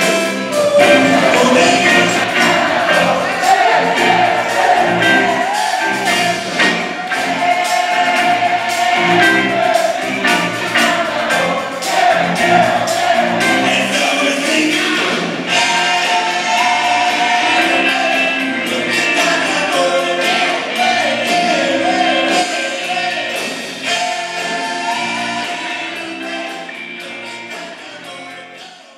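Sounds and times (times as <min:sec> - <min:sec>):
live band with singing: 0:00.0 - 0:28.9.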